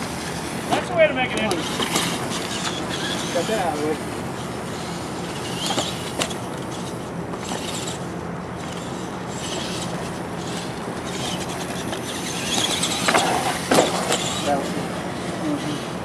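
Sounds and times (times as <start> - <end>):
toy truck electric motor whining: 0.0 - 16.0.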